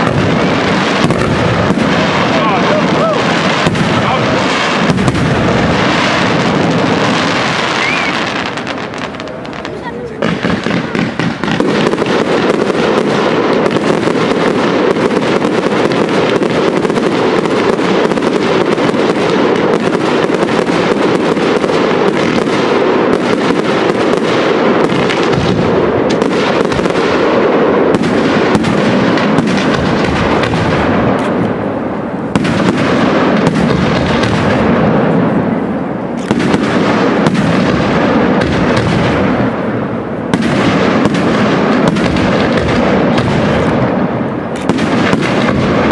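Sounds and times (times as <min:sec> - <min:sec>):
sharp firework bang: 0:00.0 - 0:31.7, 0:32.3 - 0:45.9
firework bursts and crackle: 0:00.0 - 0:45.9.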